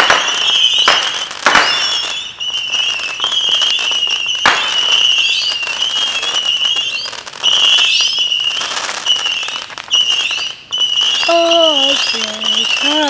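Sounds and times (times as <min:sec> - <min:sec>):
fireworks crackling pops: 0:00.0 - 0:13.0
high whistling tone: 0:01.6 - 0:13.0.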